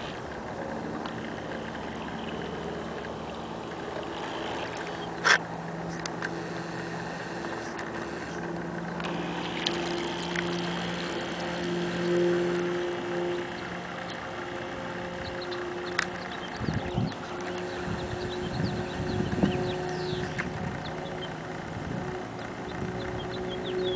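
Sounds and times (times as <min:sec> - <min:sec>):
model boat motor humming: 0:00.0 - 0:23.9.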